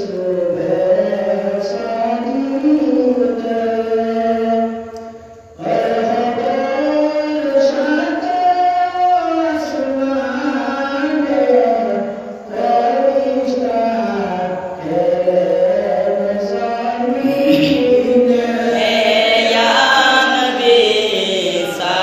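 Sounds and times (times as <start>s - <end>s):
man chanting: 0.0s - 4.9s, 5.6s - 22.0s.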